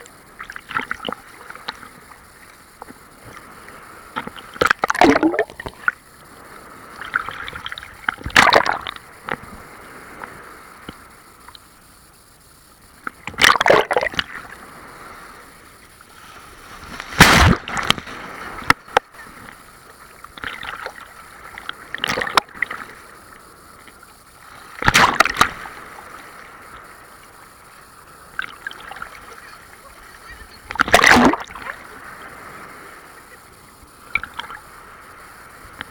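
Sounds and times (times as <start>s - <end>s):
sea waves breaking and splashing: 0.0s - 11.8s, 12.9s - 35.9s
steady wash of surf: 0.0s - 11.9s, 12.8s - 35.9s.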